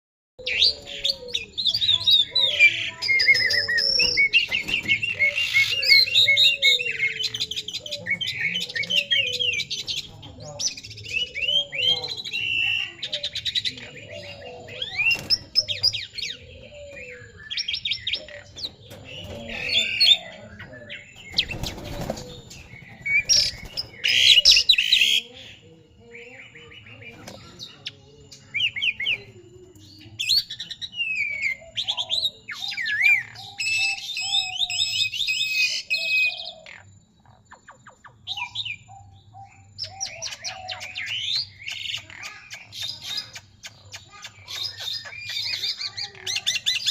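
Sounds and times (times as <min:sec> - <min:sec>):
birds whistling and chattering: 0:00.4 - 0:46.9.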